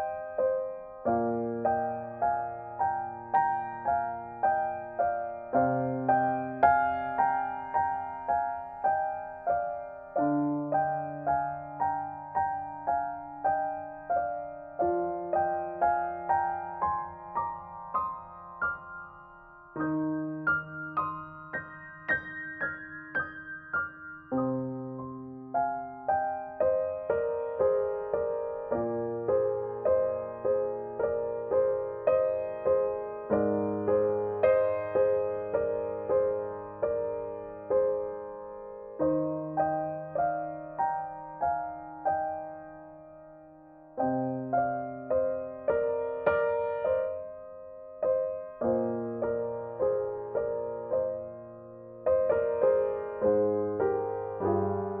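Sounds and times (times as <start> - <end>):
gentle piano piece: 0.0 - 55.0.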